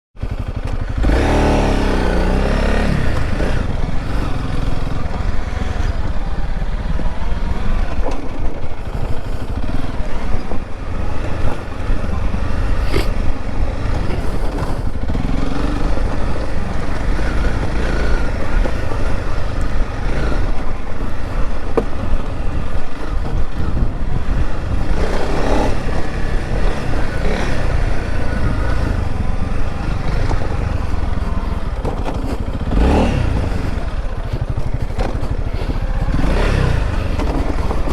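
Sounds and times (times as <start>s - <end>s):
motorcycle engine revving: 0.2s - 37.9s.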